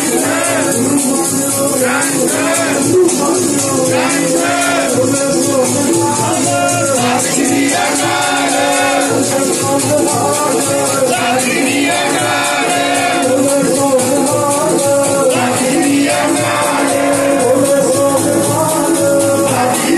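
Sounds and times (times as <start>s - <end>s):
harmonium and keyboard chords: 0.0s - 19.9s
man singing a hymn: 0.0s - 19.9s
steady percussion beat: 0.0s - 19.9s.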